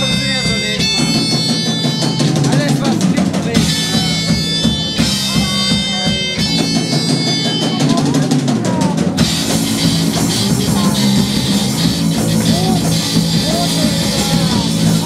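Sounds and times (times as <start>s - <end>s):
drum kick snare and rolls: 0.0s - 15.0s
live rock band playing: 0.0s - 15.0s
sustained guitar chords: 0.0s - 15.0s.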